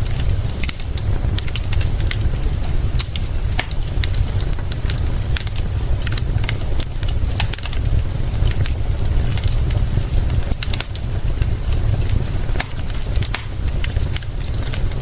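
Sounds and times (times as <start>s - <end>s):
constant low rumble: 0.0s - 15.0s
rain hissing: 0.0s - 15.0s
wood fire crackling and popping: 0.0s - 15.0s.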